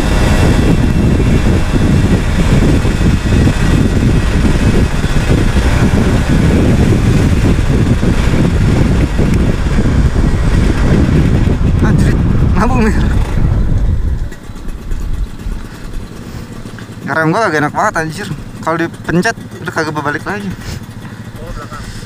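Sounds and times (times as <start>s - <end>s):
wind buffeting microphone: 0.0s - 19.2s
motorcycle engine running: 0.0s - 22.0s.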